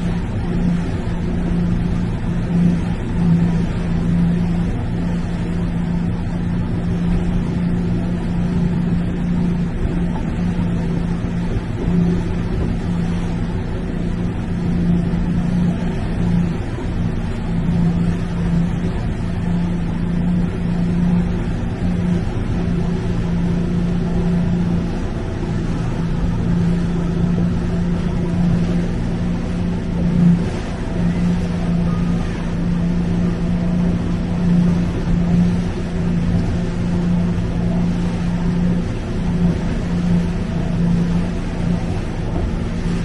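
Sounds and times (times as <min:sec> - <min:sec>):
boat engine humming: 0:00.0 - 0:43.0
wind and water noise: 0:00.0 - 0:43.0.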